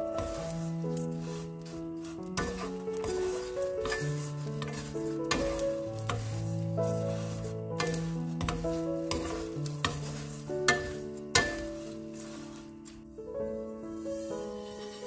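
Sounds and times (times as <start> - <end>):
soft piano-like background music: 0.0 - 15.0
spatulas scraping in frying pan: 0.0 - 15.0.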